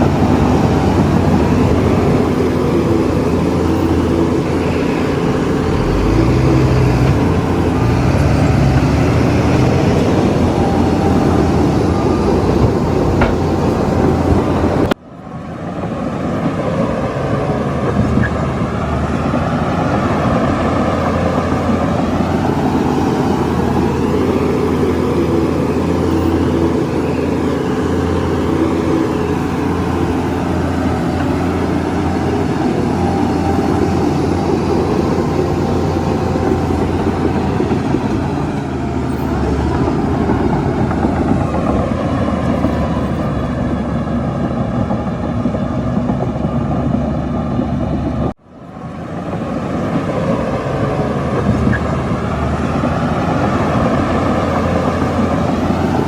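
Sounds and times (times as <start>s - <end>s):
heavy diesel machinery under load: 0.0s - 56.0s.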